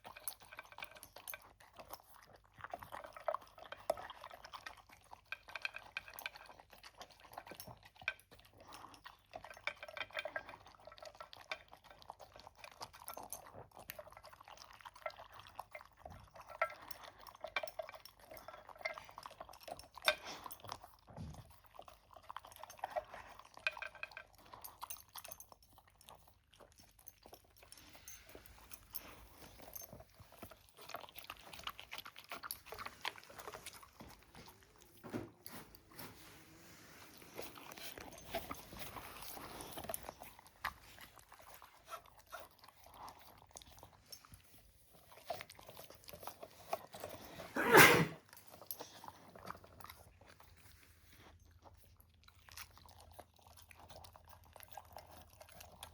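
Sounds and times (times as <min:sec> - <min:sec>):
dog eating from bowl: 0:00.0 - 0:55.9.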